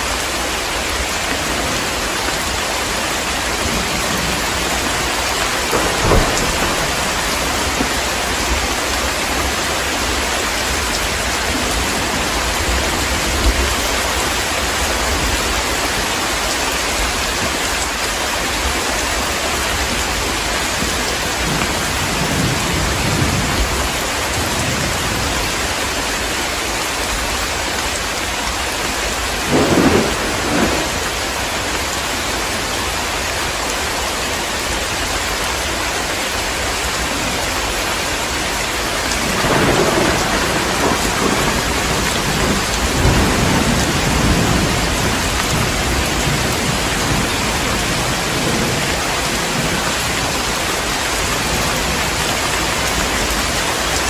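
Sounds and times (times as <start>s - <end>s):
heavy rain falling: 0.0s - 54.0s
thunder rumbling: 0.1s - 17.8s, 18.6s - 26.0s, 29.2s - 31.9s, 36.8s - 54.0s.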